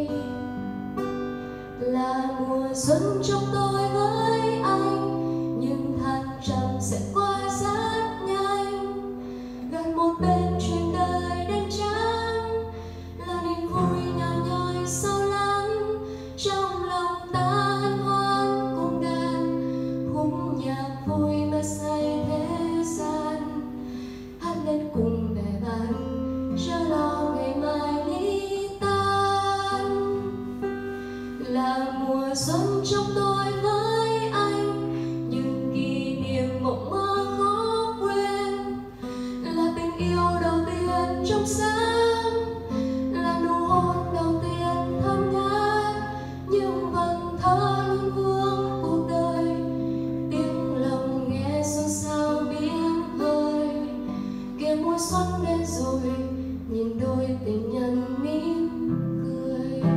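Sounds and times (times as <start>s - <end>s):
woman singing: 0.0s - 1.0s, 1.6s - 59.9s
acoustic guitar: 0.0s - 59.9s.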